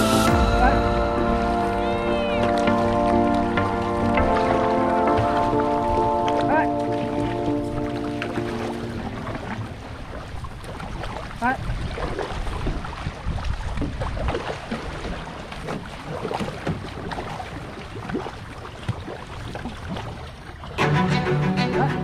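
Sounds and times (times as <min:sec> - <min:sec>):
paddles dipping in water: 0:00.0 - 0:22.0
water rushing along hull: 0:00.0 - 0:22.0.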